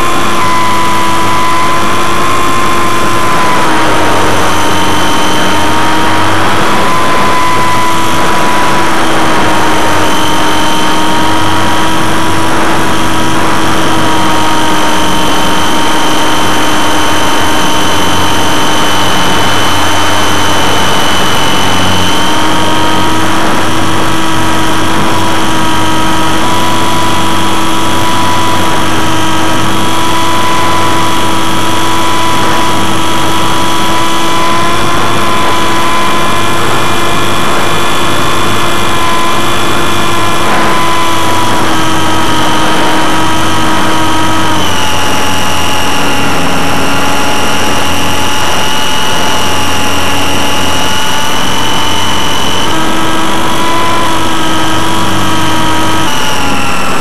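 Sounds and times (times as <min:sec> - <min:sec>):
model plane motor whine: 0:00.0 - 0:57.0.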